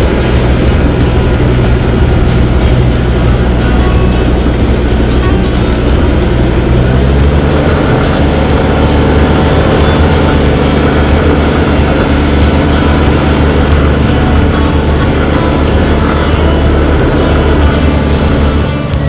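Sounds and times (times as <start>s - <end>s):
tractor engine and snowblower drone: 0.0s - 19.0s.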